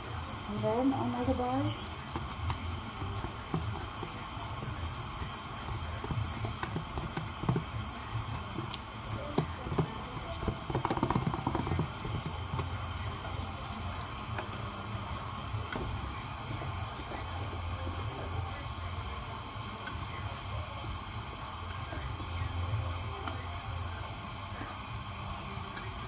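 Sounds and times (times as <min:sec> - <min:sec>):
cream pouring: 0:00.0 - 0:26.0
food simmering in a frying pan: 0:00.0 - 0:26.0
whisk stirring in a pan: 0:00.0 - 0:26.0.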